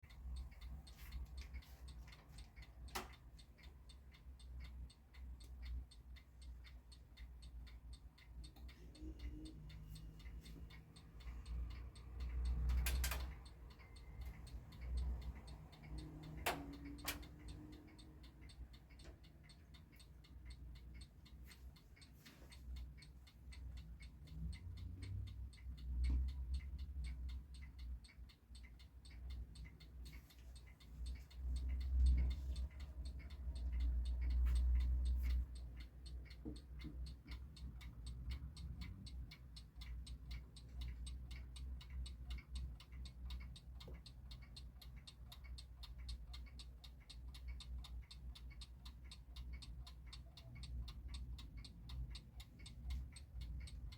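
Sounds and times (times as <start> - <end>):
mechanical alarm clock ticking: 0.0 - 53.9.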